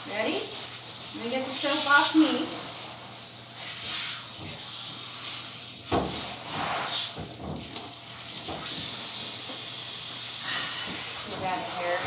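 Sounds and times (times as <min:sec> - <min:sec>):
water hissing from hose sprayer: 0:00.0 - 0:07.6, 0:08.3 - 0:12.0.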